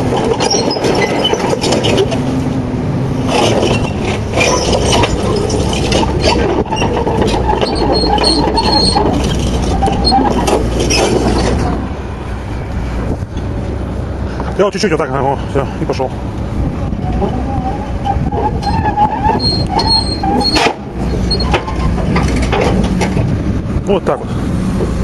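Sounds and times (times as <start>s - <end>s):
steel tracks clanking: 0.0s - 12.4s, 17.0s - 25.0s
track links squealing: 0.0s - 13.6s, 14.6s - 24.2s
diesel engine running: 0.0s - 25.0s.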